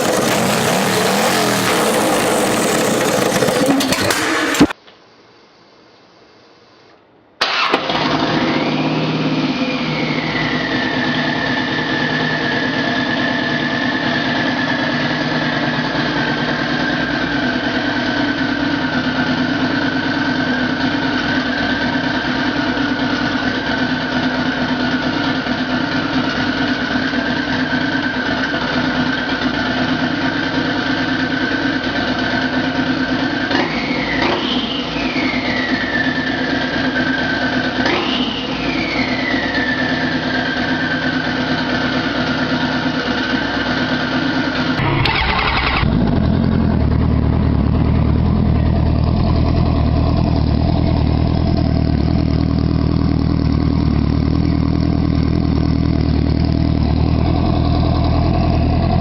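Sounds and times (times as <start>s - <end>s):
turbocharged engine idling and revving: 0.0s - 4.8s, 7.8s - 59.0s.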